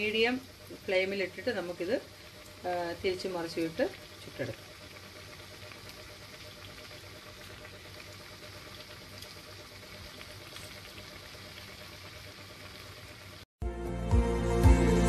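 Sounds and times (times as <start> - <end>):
batter deep-frying in oil: 0.0 - 13.5.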